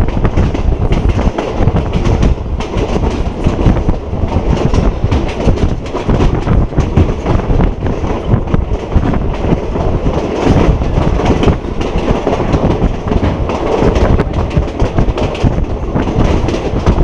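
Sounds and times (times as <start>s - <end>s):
clattering and knocks: 0.0s - 17.0s
train wheels rumbling on rails: 0.0s - 17.0s.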